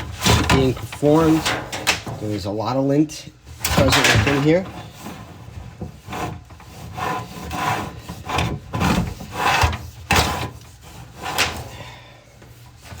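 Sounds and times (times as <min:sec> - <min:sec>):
cable scraping inside duct: 0:00.0 - 0:02.5, 0:03.5 - 0:11.8.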